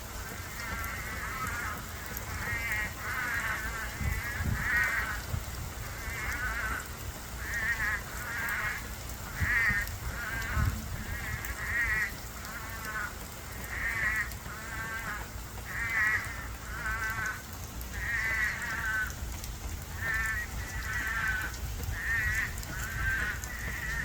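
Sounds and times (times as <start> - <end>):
toads calling: 0.4 - 5.2, 5.9 - 19.2, 19.8 - 24.0.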